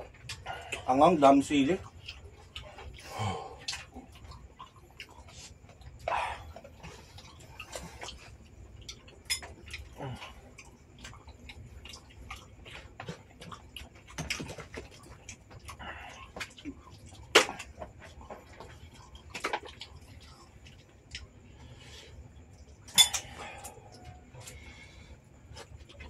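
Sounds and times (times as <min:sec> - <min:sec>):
chewing and slurping: 0:00.0 - 0:26.0.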